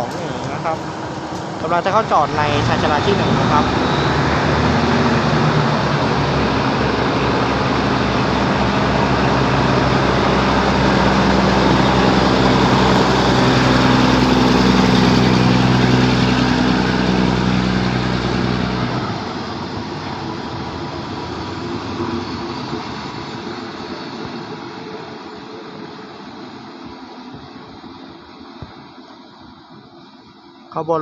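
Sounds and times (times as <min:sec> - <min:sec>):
diesel railcar engines running: 0:00.0 - 0:31.0.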